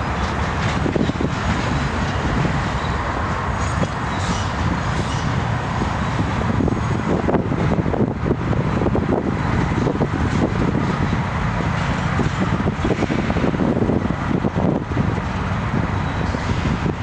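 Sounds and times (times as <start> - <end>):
freight train rumbling: 0.0 - 17.0
wind buffeting microphone: 0.0 - 17.0.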